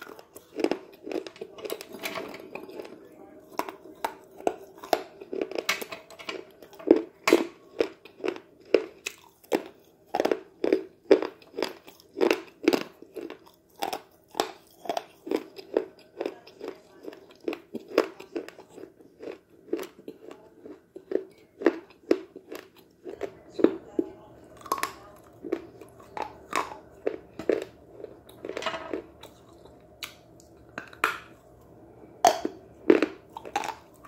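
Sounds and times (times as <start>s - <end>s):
crunching and chewing chalk: 0.0s - 34.0s.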